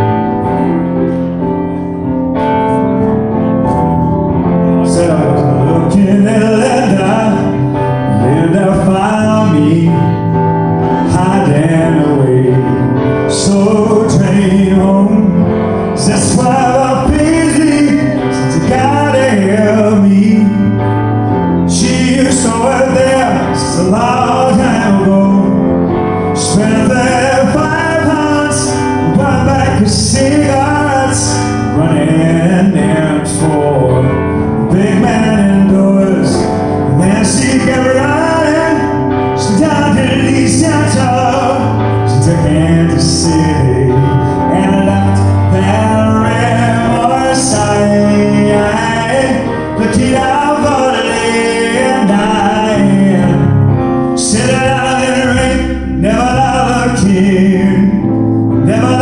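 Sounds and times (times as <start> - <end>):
keyboard chords: 0.0 - 59.0
man singing pop song: 0.0 - 59.0.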